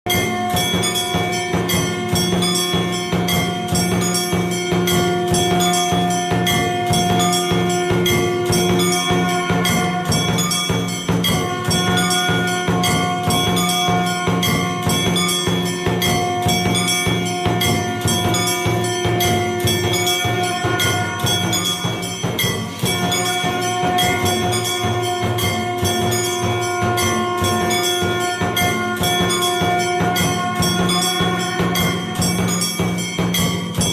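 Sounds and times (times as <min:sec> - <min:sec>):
bell-like ringing: 0:00.1 - 0:33.9
fast steady percussion: 0:00.1 - 0:33.9
sustained held tones: 0:00.1 - 0:33.9.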